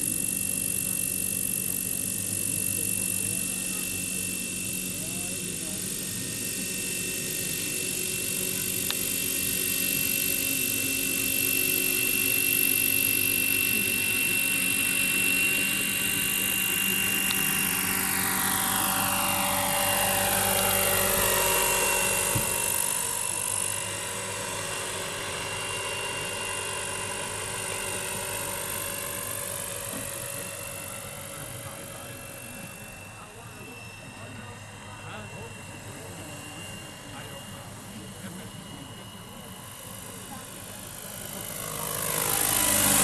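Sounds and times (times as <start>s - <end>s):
model helicopter whine: 0.0s - 43.0s.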